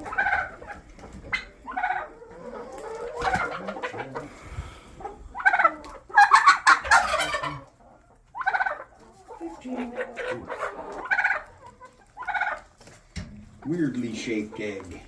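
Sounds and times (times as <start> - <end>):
hens clucking and squawking: 0.0 - 15.0.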